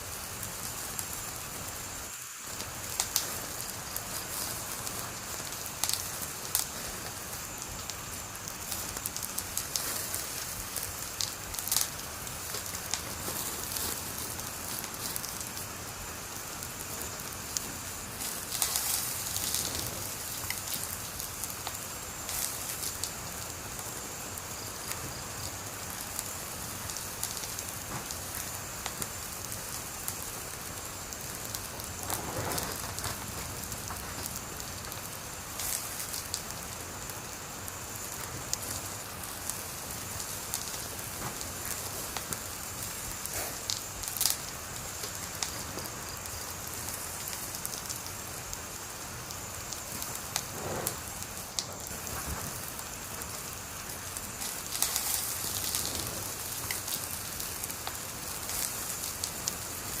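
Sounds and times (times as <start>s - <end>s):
wood fire crackling: 0.0s - 60.0s
sharp pop of fire: 1.7s - 60.0s.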